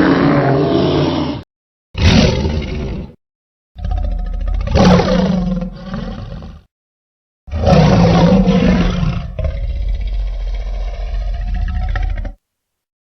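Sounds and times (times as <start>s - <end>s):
deep dinosaur roar: 0.0s - 1.4s, 2.0s - 3.2s, 3.8s - 6.7s, 7.5s - 12.4s.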